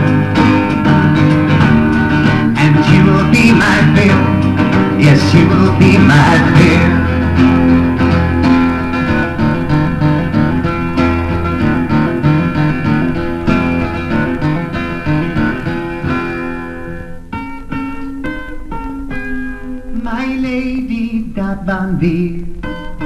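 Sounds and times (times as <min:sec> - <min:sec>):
acoustic guitars picking: 0:00.0 - 0:23.0.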